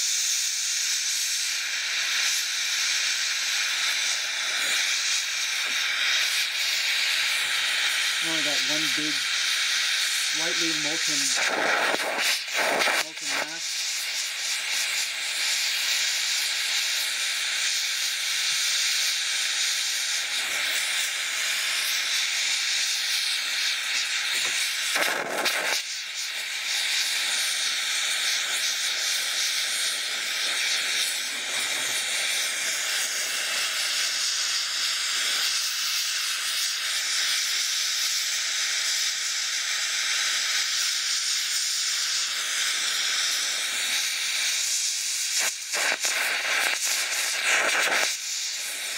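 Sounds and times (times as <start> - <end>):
torch flame hissing: 0.0 - 48.9.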